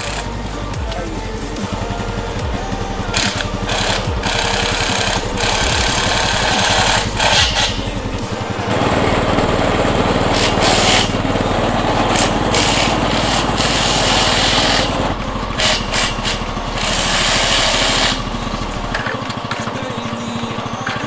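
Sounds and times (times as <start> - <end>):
impact driver hammering: 0.0 - 21.0.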